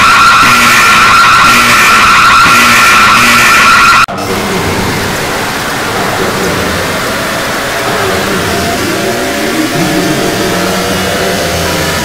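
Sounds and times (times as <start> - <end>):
distorted shrill alarm tones: 0.0 - 12.0
harsh distorted noise: 0.0 - 12.0.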